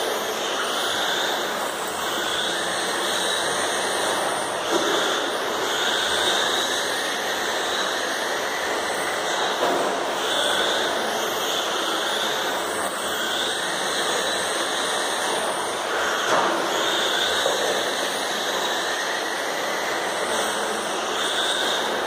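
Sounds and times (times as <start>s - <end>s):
radio-controlled car motors whining: 0.0s - 22.0s.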